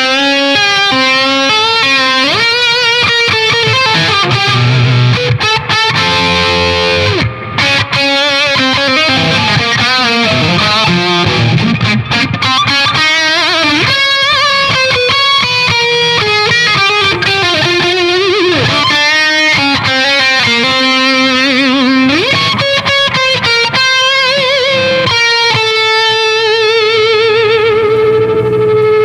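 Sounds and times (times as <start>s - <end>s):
distorted electric guitar lead: 0.0s - 29.0s.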